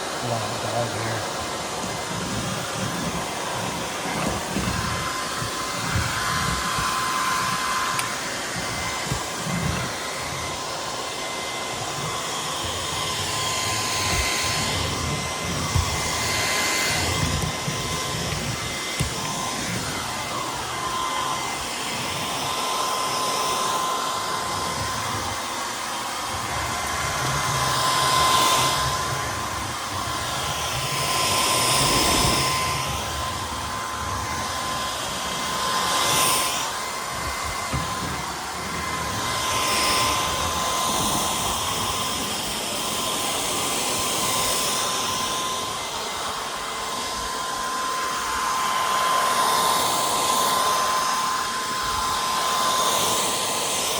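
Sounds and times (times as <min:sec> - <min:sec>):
stick vacuum running: 0:00.0 - 0:53.9.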